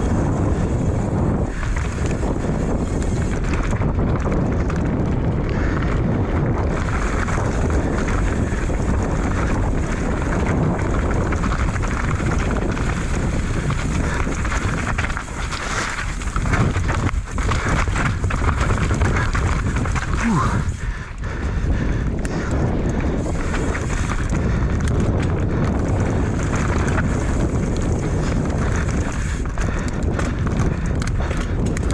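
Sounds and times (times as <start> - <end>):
bike knocking and rattling: 0.0 - 31.9
wind rushing over microphone: 0.0 - 31.9
tyres on dirt and rock: 0.1 - 31.9.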